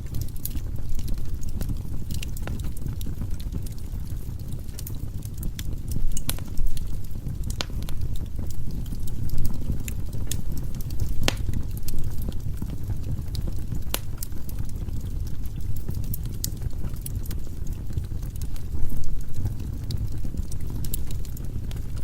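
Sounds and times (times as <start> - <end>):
burning logs crackling and popping: 0.0 - 22.0
low rumble of flames: 0.0 - 22.0.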